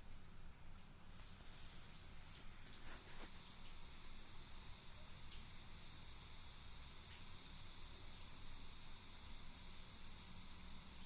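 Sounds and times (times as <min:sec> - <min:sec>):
low hum with hiss: 0:00.0 - 0:11.0.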